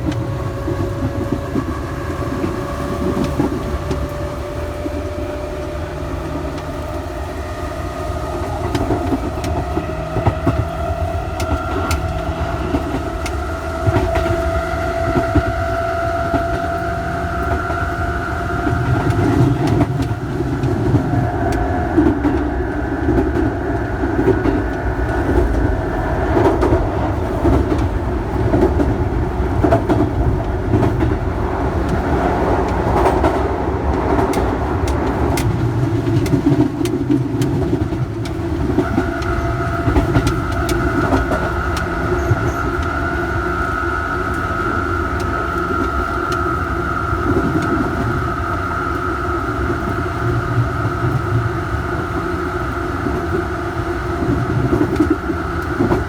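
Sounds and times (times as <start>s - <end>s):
clack of rail joints: 0.0s - 56.0s
train motors whining: 0.0s - 56.0s
train running rumble: 0.0s - 56.0s.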